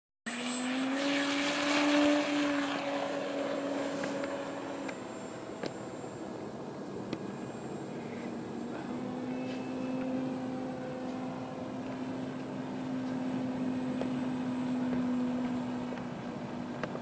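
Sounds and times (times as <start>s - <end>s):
model plane propeller drone: 0.3s - 17.0s.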